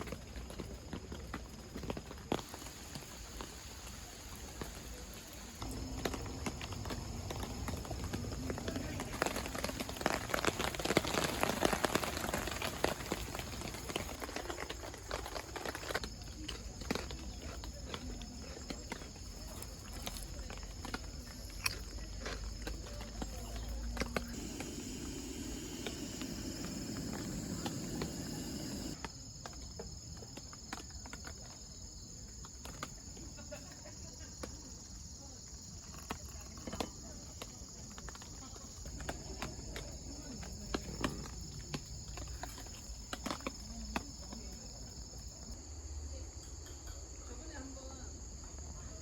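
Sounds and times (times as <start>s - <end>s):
crickets chirping: 2.3s - 49.0s.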